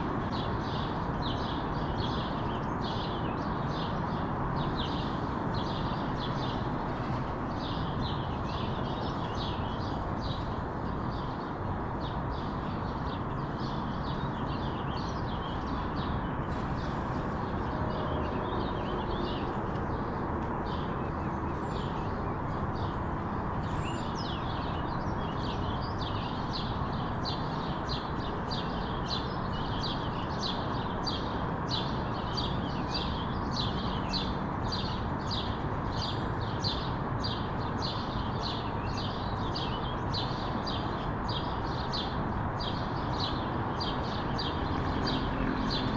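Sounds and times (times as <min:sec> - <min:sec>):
small songbirds chirping: 0:00.0 - 0:45.9.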